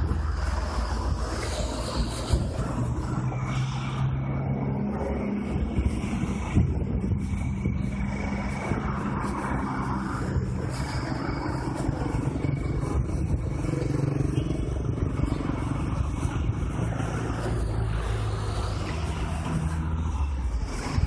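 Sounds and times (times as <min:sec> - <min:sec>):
tyre and road noise: 0:00.0 - 0:21.0
vehicle engine hum: 0:00.0 - 0:21.0.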